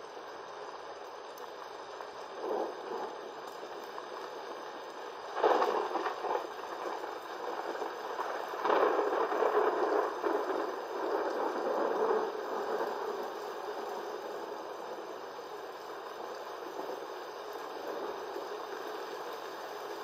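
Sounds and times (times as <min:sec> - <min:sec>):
wind gusting through palm trees: 0:00.0 - 0:20.0.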